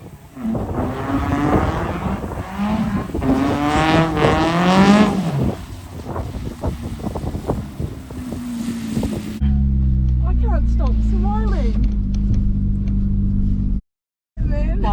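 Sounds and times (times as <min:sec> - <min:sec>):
tyre noise: 0:00.0 - 0:13.1
car engine revving: 0:00.0 - 0:13.8.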